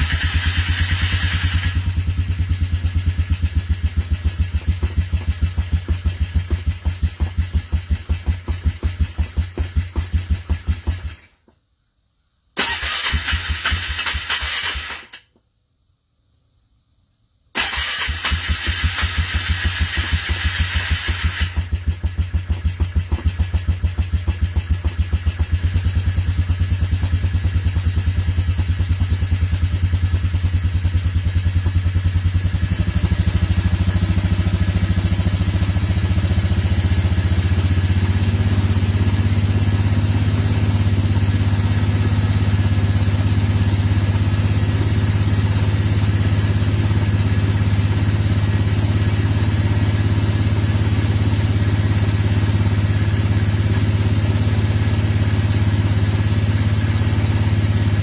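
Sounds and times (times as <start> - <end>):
motorcycle engine idling rough: 0.0 - 11.6, 17.6 - 58.0.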